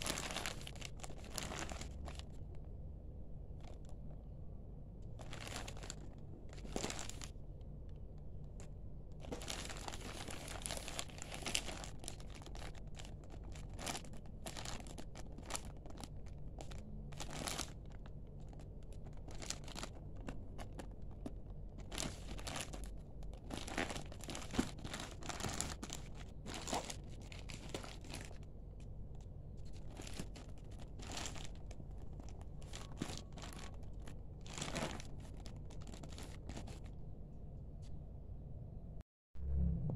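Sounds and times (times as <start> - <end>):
plastic wrapping crinkling: 0.0 - 2.6, 5.1 - 7.4, 8.3 - 28.9, 29.5 - 37.0.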